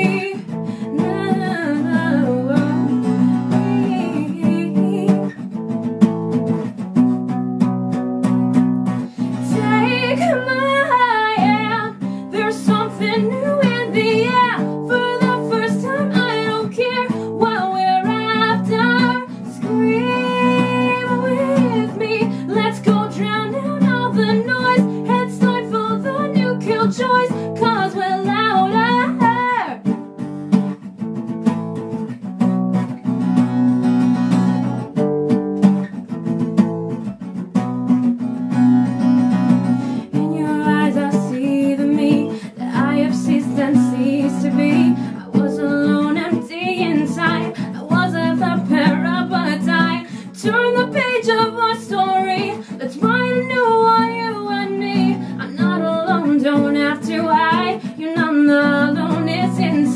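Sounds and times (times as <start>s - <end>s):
strummed acoustic guitar: 0.0s - 59.9s
woman singing folk song: 0.0s - 59.9s.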